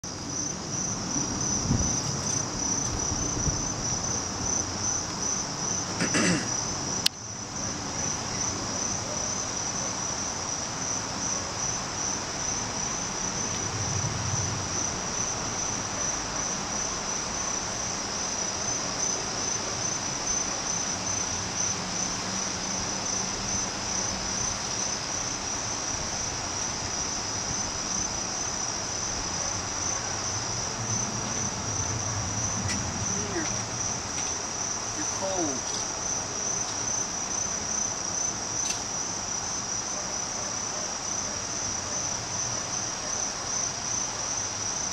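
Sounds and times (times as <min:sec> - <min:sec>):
high-pitched insect chorus: 0:00.1 - 0:44.9.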